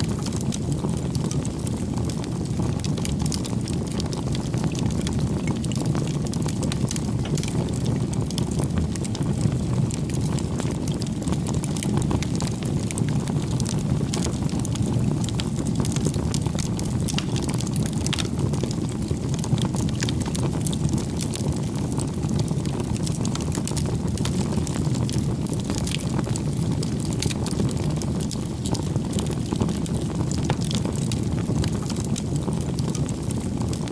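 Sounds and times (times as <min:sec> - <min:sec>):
campfire crackling and popping: 0:00.0 - 0:33.9
low rush of flame: 0:00.0 - 0:33.9.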